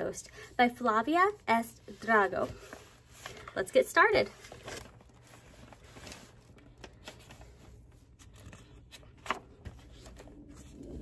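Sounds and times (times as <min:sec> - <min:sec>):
book pages turning: 0:01.9 - 0:11.0.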